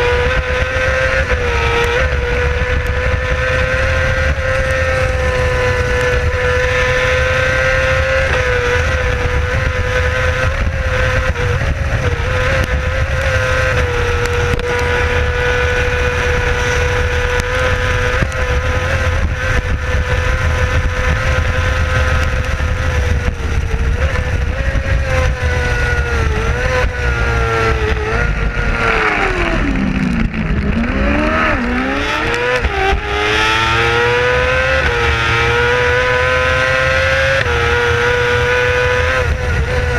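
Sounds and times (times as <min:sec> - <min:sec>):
racing engine at high revs: 0:00.0 - 0:39.9
wind rushing: 0:00.0 - 0:39.9.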